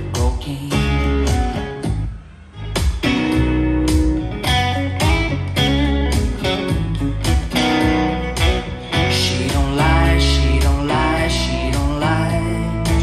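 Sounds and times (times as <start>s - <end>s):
heavy sustained bass line: 0.0s - 13.0s
plucked guitar music: 0.0s - 13.0s.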